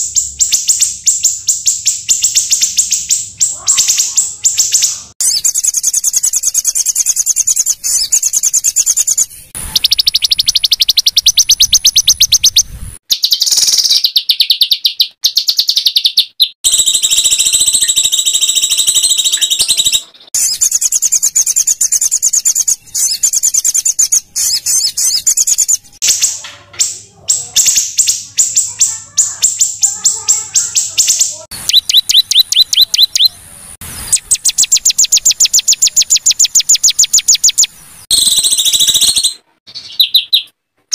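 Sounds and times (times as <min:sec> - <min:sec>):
songbirds trilling: 0:00.0 - 0:40.5.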